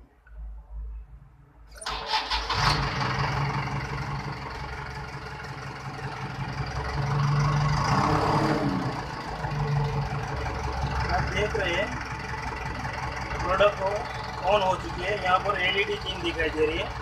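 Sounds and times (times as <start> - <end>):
diesel engine idling: 1.8 - 17.0.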